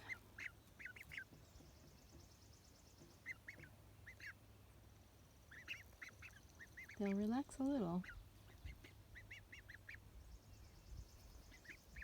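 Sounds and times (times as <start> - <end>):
ducklings peeping: 0.0 - 2.2, 3.0 - 4.4, 5.4 - 12.0.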